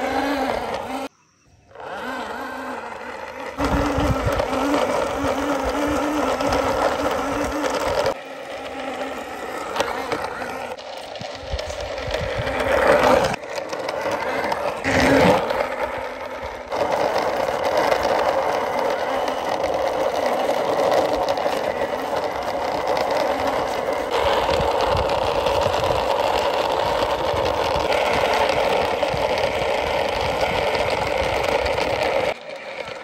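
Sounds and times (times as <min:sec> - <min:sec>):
toy wheels grinding on concrete: 0:00.0 - 0:33.0.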